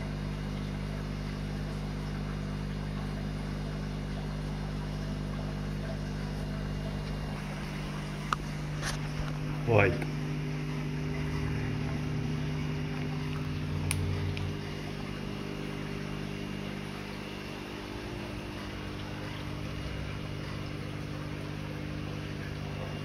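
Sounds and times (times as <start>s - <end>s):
motor humming: 0.0s - 23.0s.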